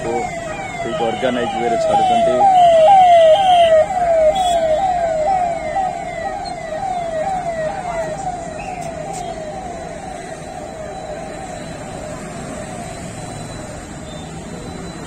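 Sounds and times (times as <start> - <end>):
police siren sweeps: 0.0 - 15.0.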